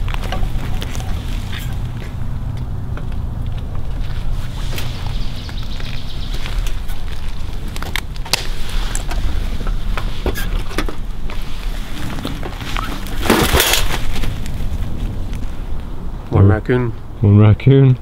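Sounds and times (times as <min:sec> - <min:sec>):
brush rustling: 0:00.0 - 0:15.9
low rumble: 0:00.0 - 0:17.5.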